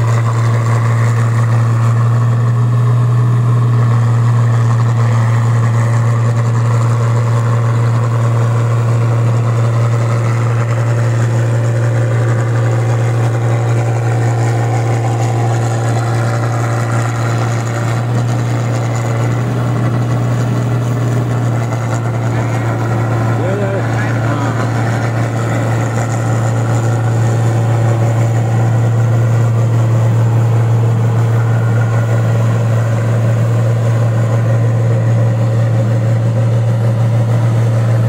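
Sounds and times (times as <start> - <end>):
combine harvester engine hum: 0.0 - 38.0
machinery noise: 0.0 - 38.0.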